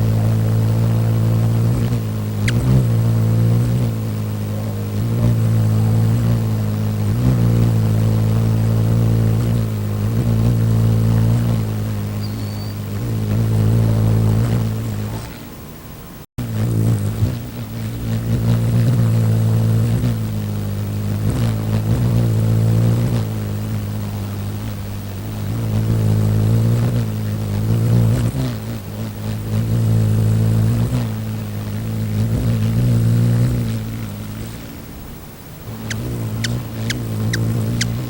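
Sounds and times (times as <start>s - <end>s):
hummingbird wings humming: 0.0s - 38.0s.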